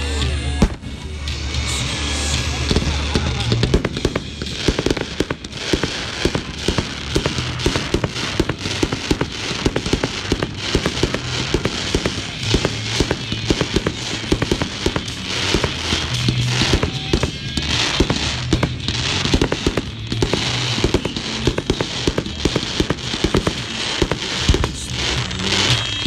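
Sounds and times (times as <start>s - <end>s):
fireworks bursting: 0.0s - 26.0s
music with low bass line: 0.0s - 26.0s
crackling pops: 2.7s - 26.0s.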